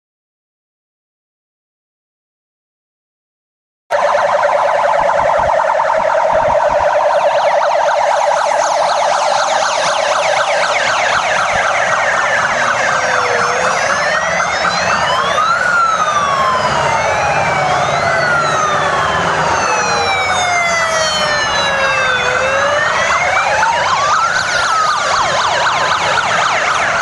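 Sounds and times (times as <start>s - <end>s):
wailing siren: 3.9s - 27.0s
yelping siren: 3.9s - 27.0s.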